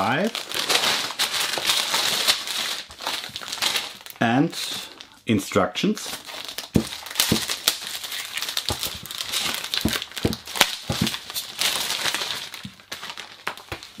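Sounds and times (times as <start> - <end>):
plastic bag crinkling: 0.0 - 4.2, 6.1 - 14.0.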